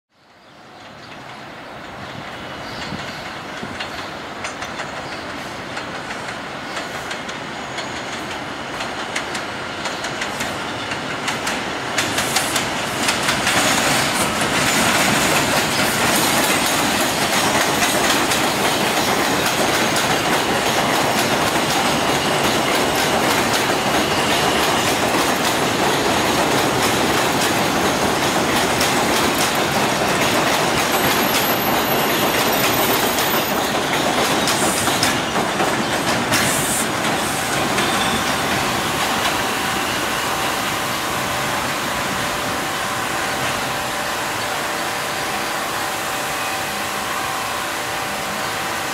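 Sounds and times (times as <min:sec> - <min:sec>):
subway train rumbling on rails: 0:00.2 - 0:48.9
train wheel clatter: 0:00.7 - 0:44.6.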